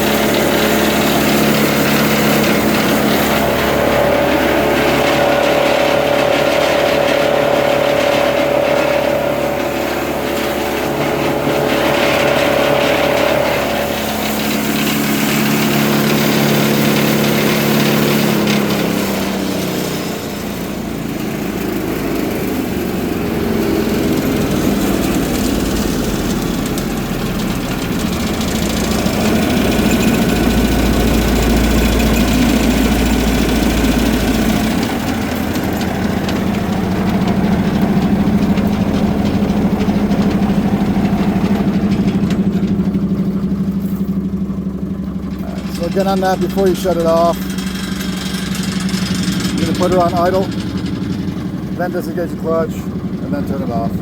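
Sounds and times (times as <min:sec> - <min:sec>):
wood chipper engine running: 0:00.0 - 0:54.0.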